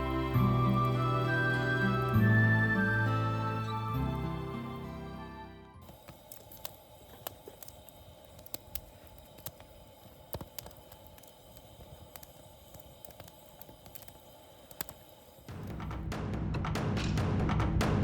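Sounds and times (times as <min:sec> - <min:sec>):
wood fire crackling: 0:00.0 - 0:16.1.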